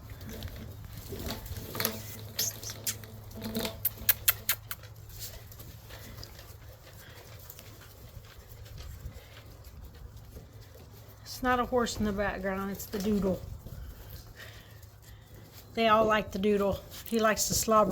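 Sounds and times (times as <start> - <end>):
puppies pattering and clicking: 0.0 - 17.9.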